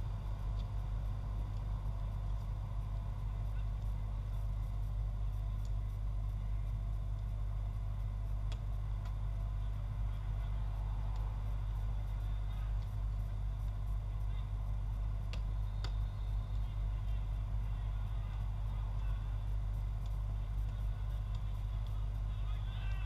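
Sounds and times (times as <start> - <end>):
low outdoor rumble: 0.0 - 23.0
faint distant voices: 0.3 - 23.0.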